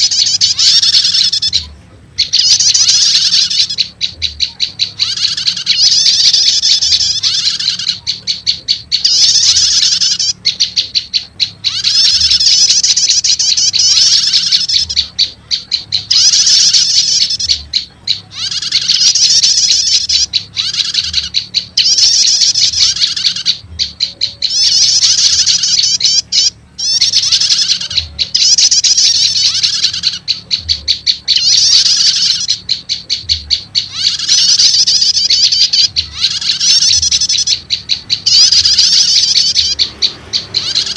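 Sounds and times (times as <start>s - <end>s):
bird chattering trills: 0.0s - 40.9s.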